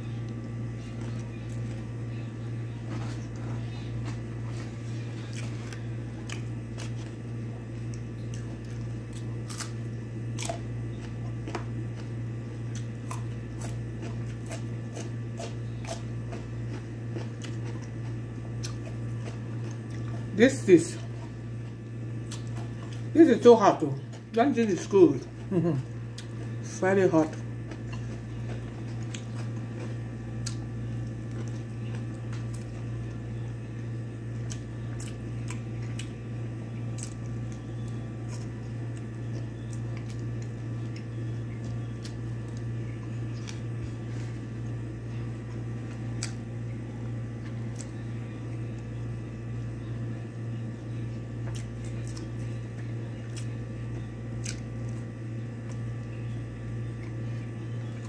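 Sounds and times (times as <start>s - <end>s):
steady low hum: 0.0s - 58.0s
person chewing: 2.8s - 48.9s, 51.1s - 58.0s.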